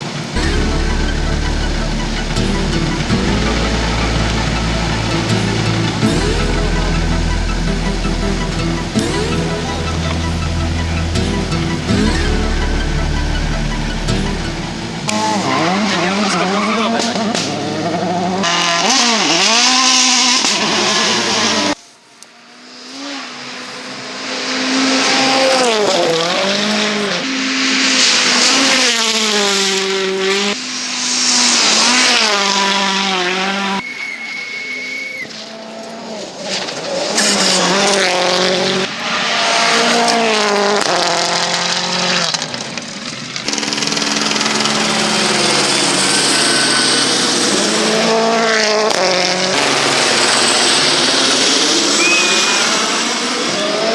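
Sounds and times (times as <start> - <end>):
rally car engines revving: 0.0 - 34.0, 35.2 - 53.9.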